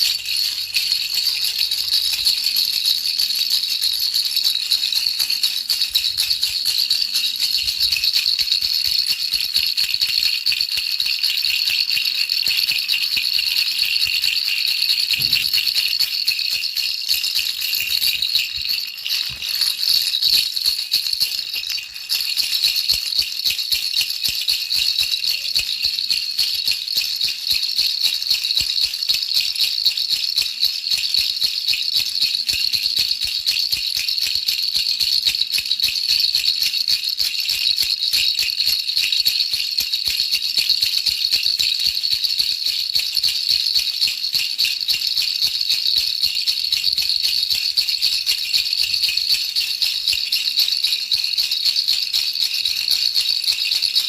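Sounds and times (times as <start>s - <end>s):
baby rattle shaken: 0.0s - 54.0s.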